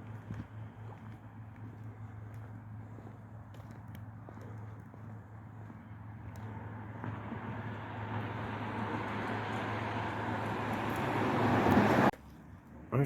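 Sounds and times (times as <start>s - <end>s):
car engine hum: 0.0s - 12.1s
tyre noise on road: 0.0s - 12.8s.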